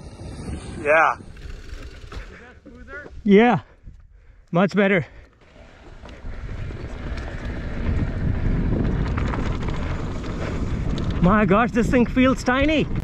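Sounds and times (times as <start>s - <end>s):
wind rushing over microphone: 0.0s - 4.2s, 5.6s - 13.0s.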